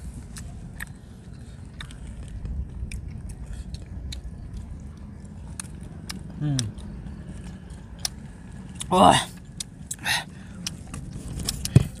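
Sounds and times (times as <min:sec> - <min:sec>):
crunchy chewing: 0:00.0 - 0:12.0
low steady rumble: 0:00.0 - 0:12.0.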